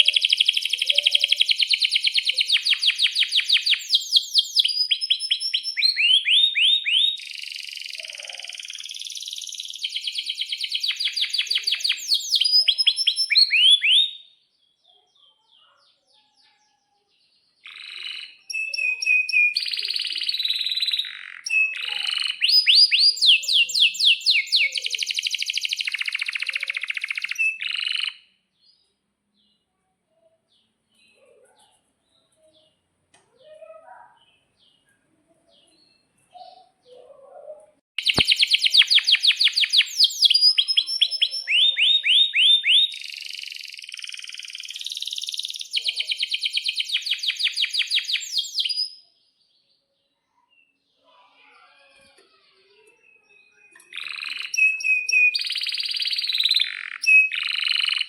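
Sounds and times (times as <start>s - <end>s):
canary singing trills: 0.0s - 29.7s, 30.5s - 58.0s.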